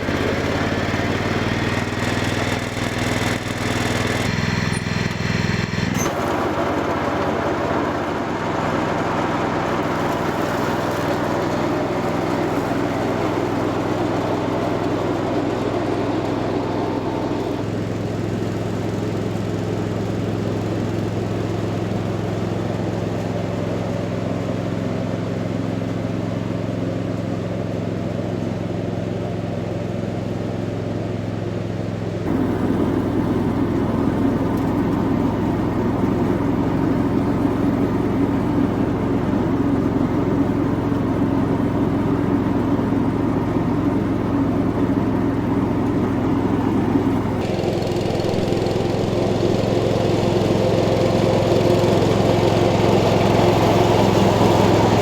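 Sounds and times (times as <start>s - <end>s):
garden tractor engine mowing: 0.0s - 55.0s.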